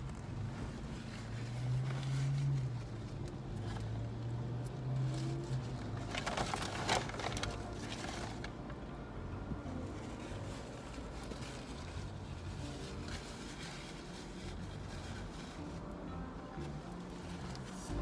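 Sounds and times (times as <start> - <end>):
crackling rustle: 0.0 - 18.0.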